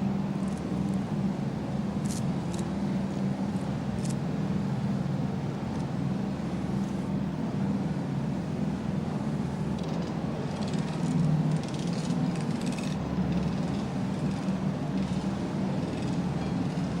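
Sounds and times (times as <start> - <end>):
heavy machinery engine humming: 0.0 - 17.0.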